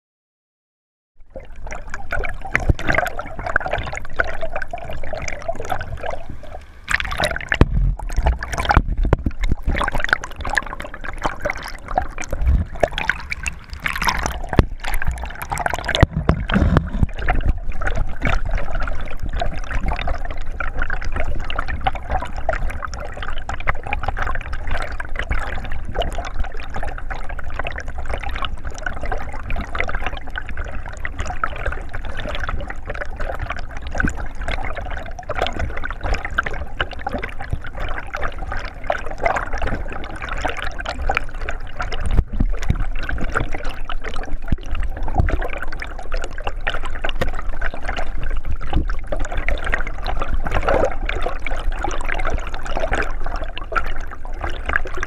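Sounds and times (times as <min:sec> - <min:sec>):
stream water bubbling over rocks: 0:01.2 - 0:55.0.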